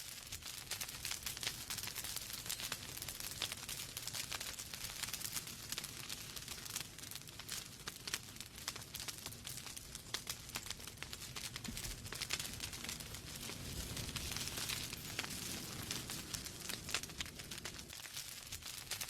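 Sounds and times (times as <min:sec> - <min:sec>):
soft hiss of flames: 0:00.0 - 0:19.0
wood fire crackling: 0:00.0 - 0:19.0.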